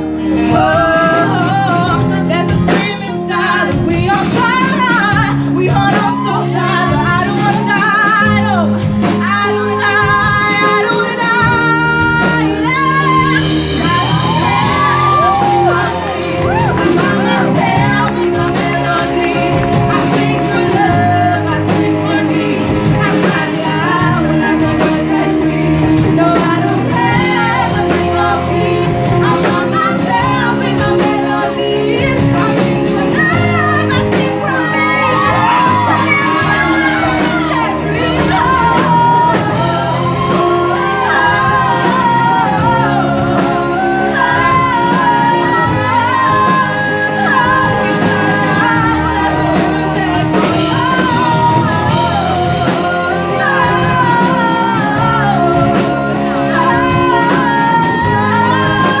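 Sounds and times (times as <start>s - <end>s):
pop instrumental backing: 0.0s - 59.0s
vocal singing with vibrato: 0.0s - 59.0s.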